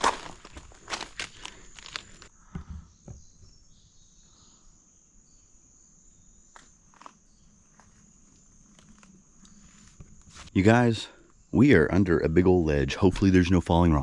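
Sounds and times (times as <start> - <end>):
insects buzzing: 0.3 - 12.4.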